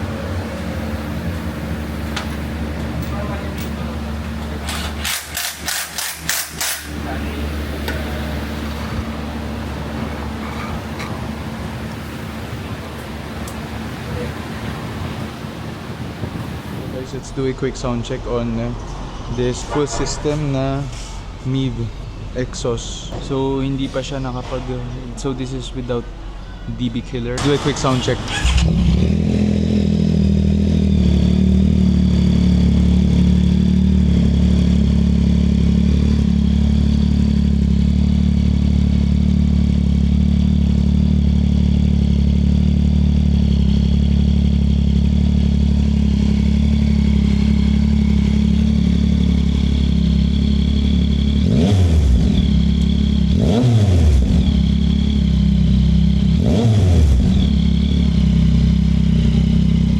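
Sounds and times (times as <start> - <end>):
motorcycle engine idling and revving: 0.0 - 19.5, 27.4 - 59.9.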